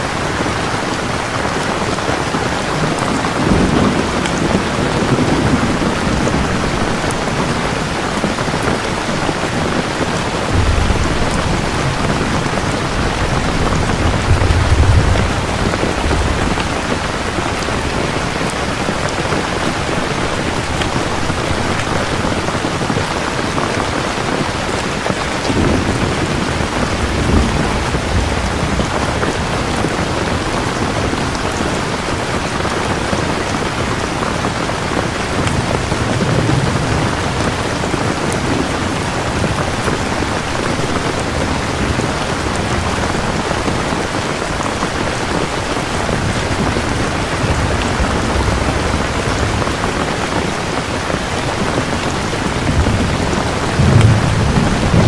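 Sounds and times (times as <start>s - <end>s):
heavy rain falling: 0.0s - 55.0s
low thunder rumbling: 0.3s - 55.0s.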